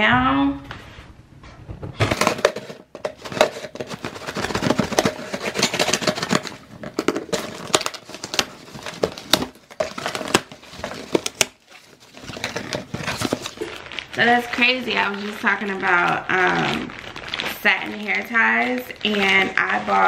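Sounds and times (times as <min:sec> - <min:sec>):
packaging crinkling and rustling: 0:02.0 - 0:20.0.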